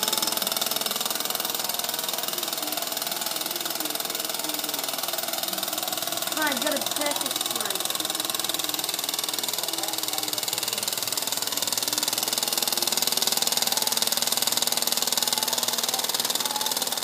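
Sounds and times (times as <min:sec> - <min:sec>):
steam engine running: 0:00.0 - 0:17.0.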